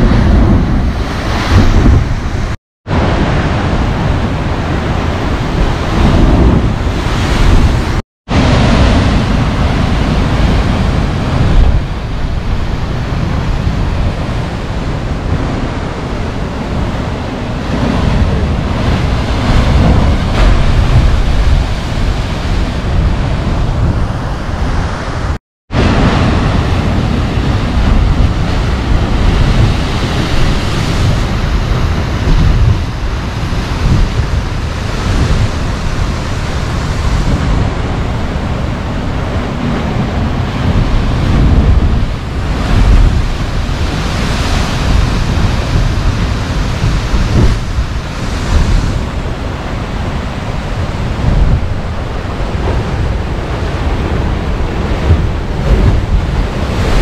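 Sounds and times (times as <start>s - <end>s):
ocean surf crashing on rocks: 0.0s - 57.0s
wind rumble on microphone: 0.0s - 57.0s.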